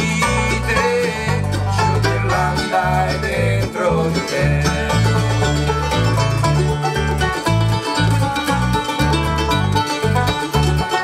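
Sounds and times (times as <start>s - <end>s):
acoustic guitar picking: 0.0s - 11.0s
banjo: 0.0s - 11.0s
bass guitar line: 0.0s - 11.0s
mandolin: 0.0s - 11.0s.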